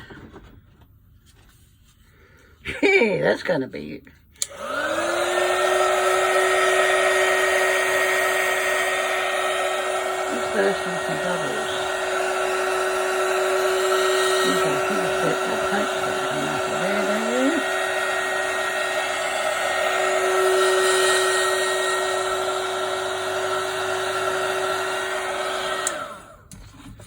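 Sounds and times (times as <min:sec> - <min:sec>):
hot-air blower humming: 0:04.4 - 0:27.0.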